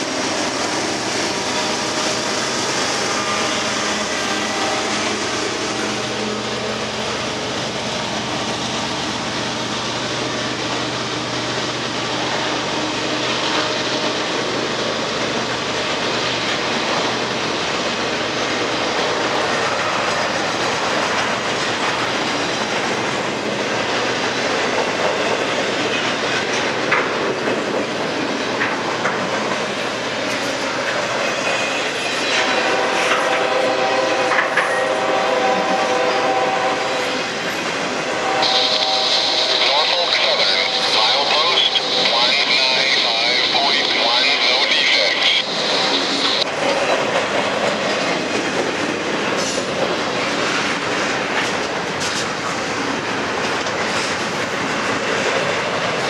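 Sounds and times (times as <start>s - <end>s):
diesel locomotive hum: 0.0s - 56.0s
train wheels rumbling on rails: 0.0s - 56.0s.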